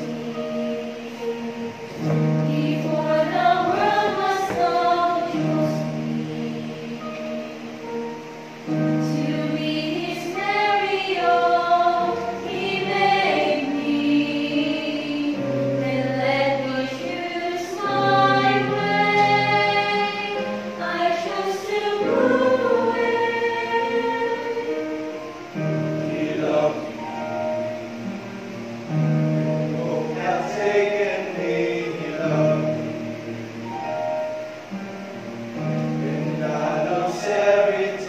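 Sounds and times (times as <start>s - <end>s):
choir singing a hymn: 0.0s - 38.0s.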